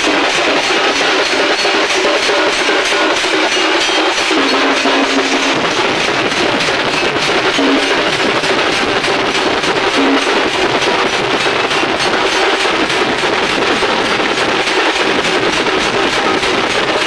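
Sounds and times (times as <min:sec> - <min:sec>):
fast dense drumming: 0:00.0 - 0:17.0
steady held tone: 0:00.0 - 0:17.0.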